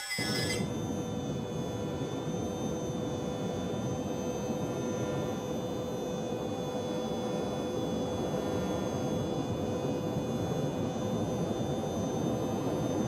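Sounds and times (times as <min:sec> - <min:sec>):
machine drone with high whine: 0:00.0 - 0:13.0.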